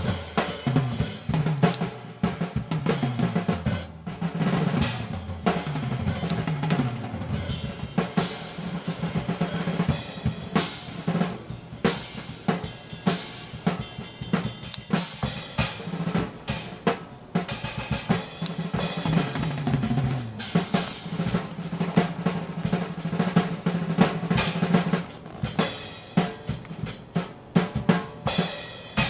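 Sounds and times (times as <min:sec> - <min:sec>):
rapid snare and bass drum: 0:00.0 - 0:29.0.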